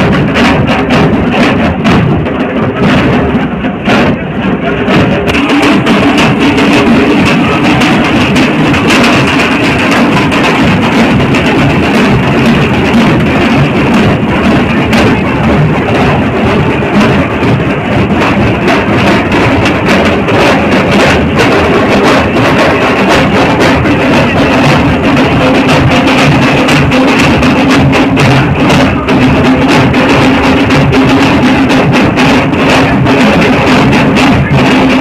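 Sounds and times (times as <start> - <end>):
barrel drums beaten with sticks: 0.0 - 35.0
crowd din: 0.0 - 35.0.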